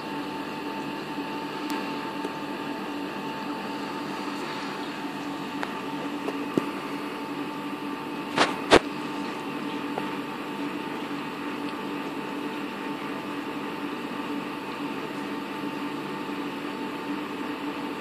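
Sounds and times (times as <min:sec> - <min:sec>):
aquarium pumps humming: 0:00.0 - 0:18.0.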